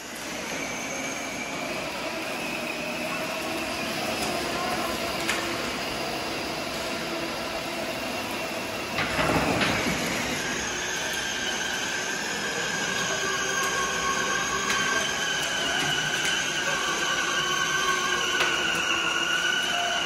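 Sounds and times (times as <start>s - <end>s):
toy car motors whining: 0.0s - 20.0s.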